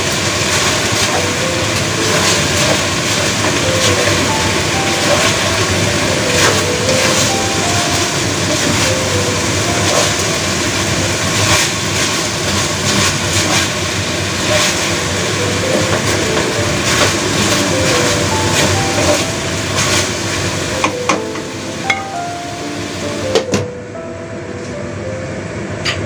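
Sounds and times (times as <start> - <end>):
food sizzling in a wok: 0.0 - 23.3.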